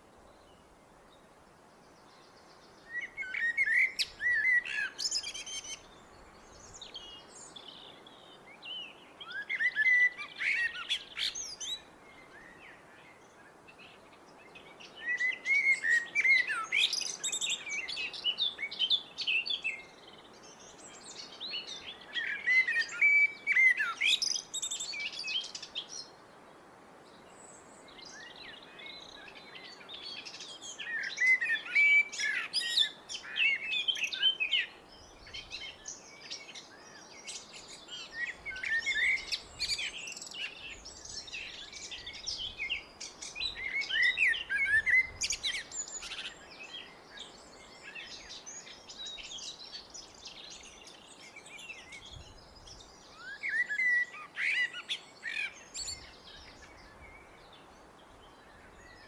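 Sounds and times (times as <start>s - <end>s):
faint background hiss: 0.0s - 59.0s
blackbird singing: 2.8s - 14.0s, 14.6s - 26.1s, 27.4s - 57.7s.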